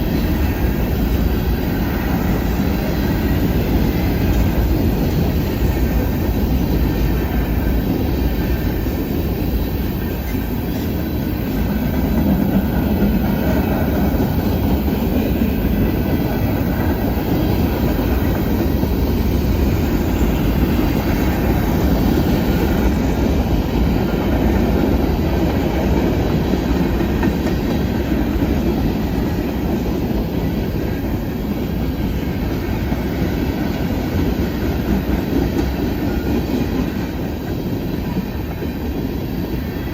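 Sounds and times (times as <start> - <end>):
clickety-clack over rail joints: 0.0 - 39.9
freight train wheels rumbling on rail: 0.0 - 39.9.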